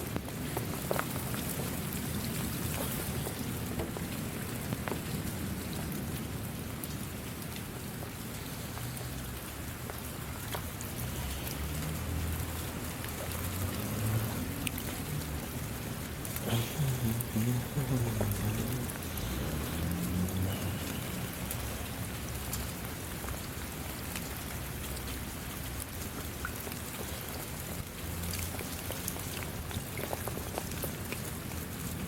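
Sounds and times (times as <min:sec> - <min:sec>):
raindrops hitting close by: 0:00.0 - 0:32.0
steady rain: 0:00.0 - 0:32.0.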